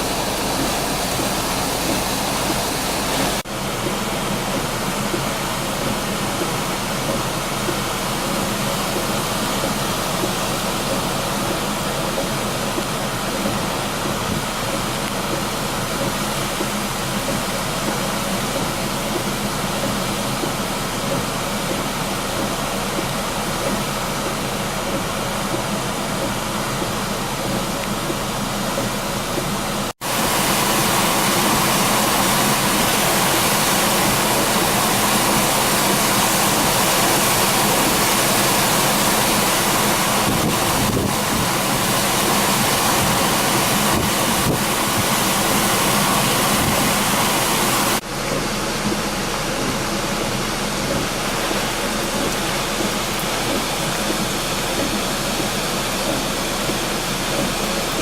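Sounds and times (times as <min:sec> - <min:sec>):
river rushing: 0:00.0 - 0:19.9, 0:30.0 - 0:58.0.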